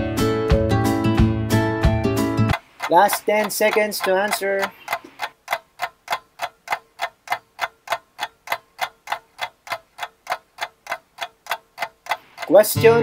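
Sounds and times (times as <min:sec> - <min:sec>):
ticking clock countdown: 0:02.5 - 0:13.0.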